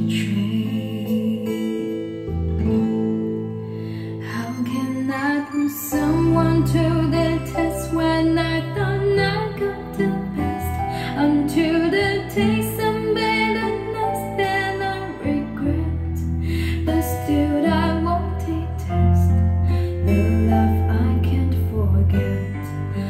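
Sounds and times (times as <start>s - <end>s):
woman singing over guitar: 0.0s - 2.3s, 4.2s - 23.0s.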